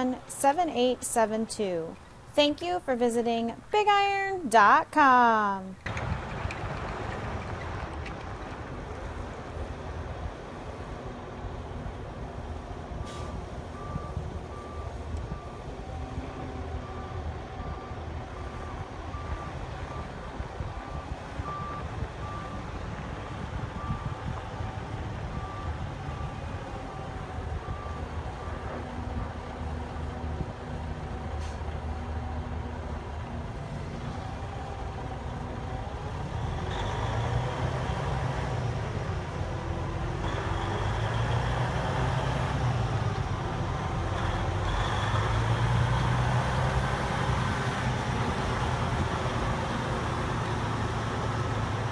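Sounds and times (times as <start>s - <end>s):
truck diesel engine running: 5.8s - 51.9s.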